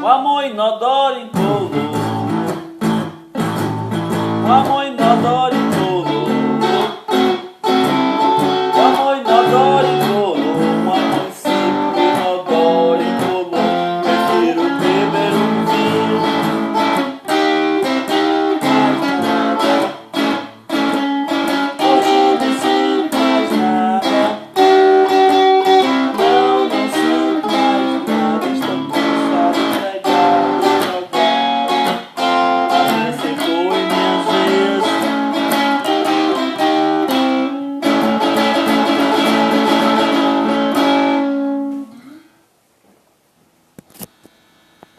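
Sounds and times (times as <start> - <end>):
electric guitar blues line: 0.0 - 42.3.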